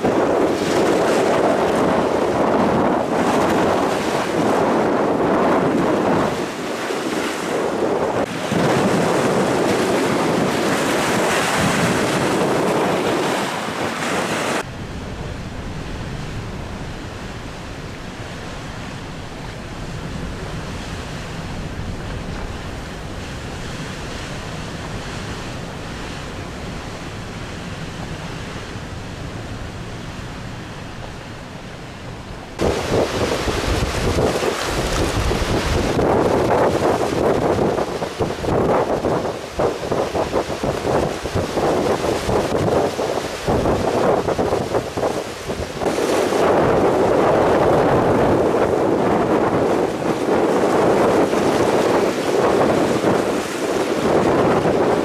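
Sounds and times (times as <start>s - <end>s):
waves breaking against shore: 0.0s - 55.0s
wind buffeting microphone: 0.0s - 55.0s.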